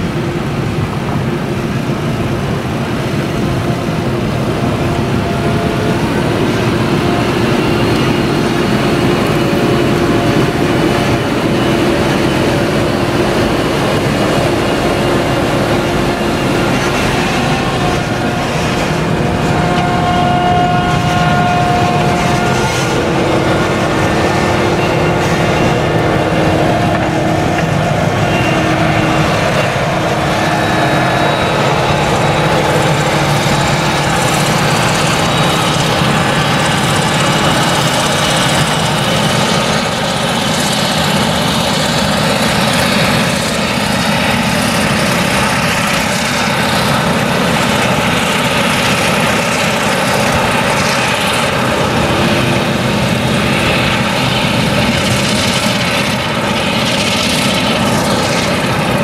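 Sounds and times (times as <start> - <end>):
harvester engine under load: 0.0 - 59.0
tractor engine: 0.0 - 59.0.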